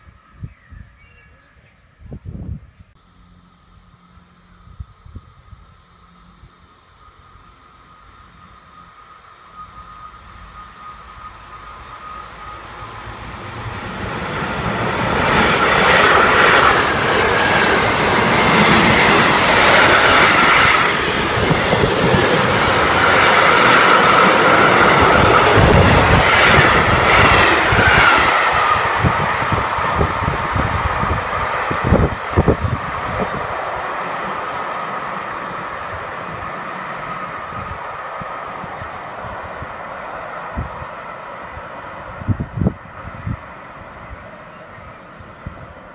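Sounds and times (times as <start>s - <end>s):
train whine: 2.8s - 45.9s.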